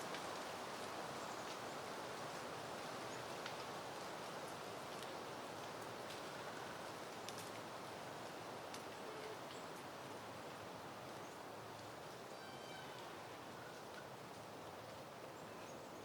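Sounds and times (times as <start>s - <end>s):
wind rustling through plants: 0.0s - 16.0s.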